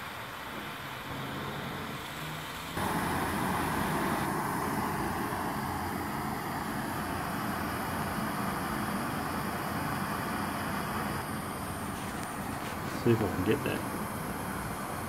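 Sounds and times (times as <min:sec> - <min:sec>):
gas torch flames hissing: 0:00.0 - 0:15.0.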